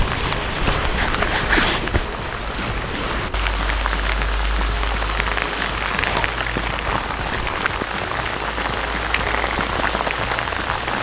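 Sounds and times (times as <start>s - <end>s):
heavy rain on river: 0.0s - 11.0s.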